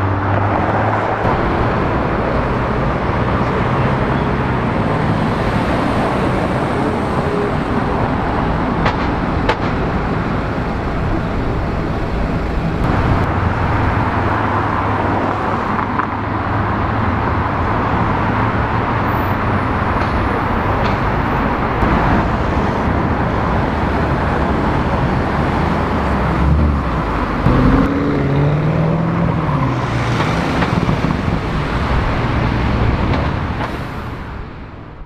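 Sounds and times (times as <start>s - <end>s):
car revving pulling away: 0.0s - 34.2s
city street traffic: 0.0s - 35.0s.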